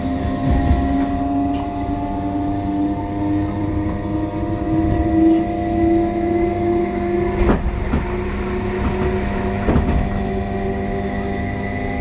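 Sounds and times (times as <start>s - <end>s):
train rumble with motor whine: 0.0s - 12.0s.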